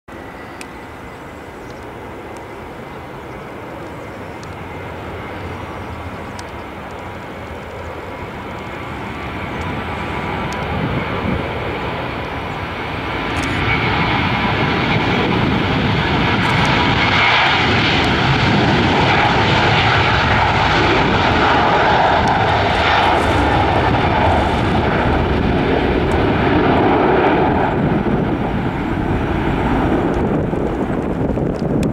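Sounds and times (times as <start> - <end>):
jet engines roaring with whine: 0.1 - 31.9.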